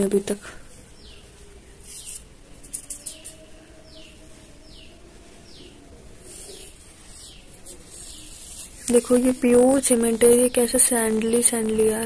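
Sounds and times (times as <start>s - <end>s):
bird chirping: 0.8s - 11.4s.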